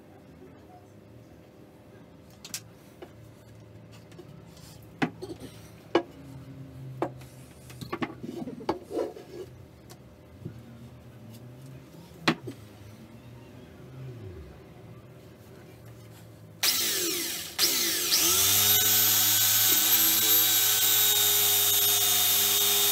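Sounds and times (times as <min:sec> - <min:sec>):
faint low hum: 0:00.0 - 0:18.4.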